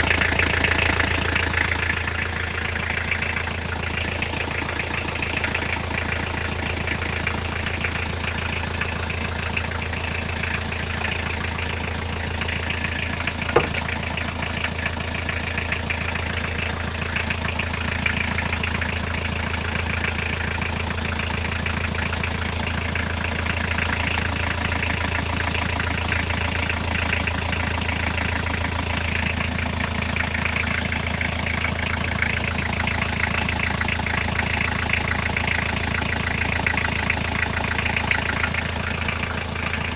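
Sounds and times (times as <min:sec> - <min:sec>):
car engine idling: 0:00.0 - 0:39.9
fast rhythmic engine knock: 0:00.0 - 0:39.9.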